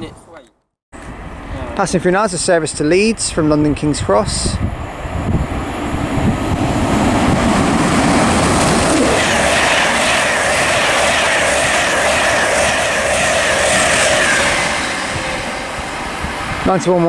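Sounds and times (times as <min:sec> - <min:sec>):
high whine: 0:01.0 - 0:17.0
train wheels rushing on rail: 0:01.0 - 0:17.0.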